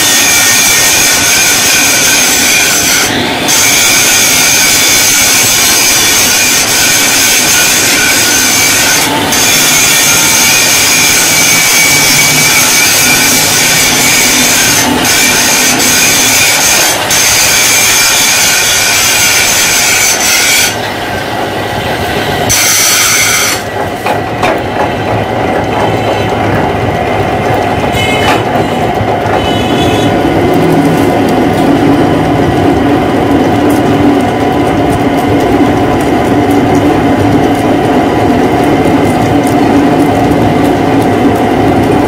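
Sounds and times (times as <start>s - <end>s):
metal lathe grinding: 0.0s - 42.0s.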